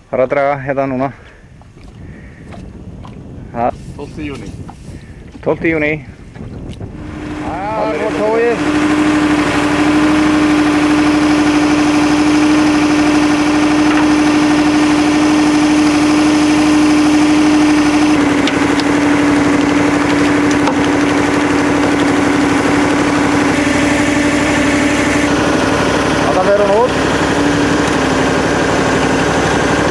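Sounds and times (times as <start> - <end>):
boat motor humming: 1.3 - 29.9.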